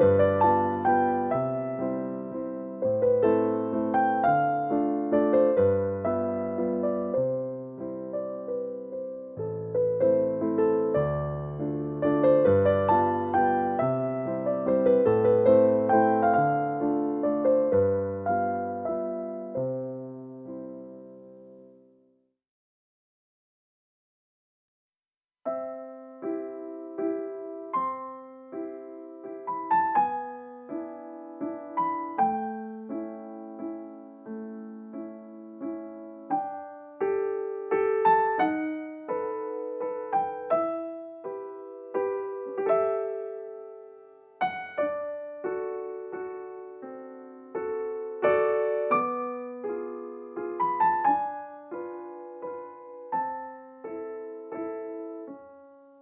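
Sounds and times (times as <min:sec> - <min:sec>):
gentle piano melody: 0:00.0 - 0:22.0, 0:25.5 - 0:56.0.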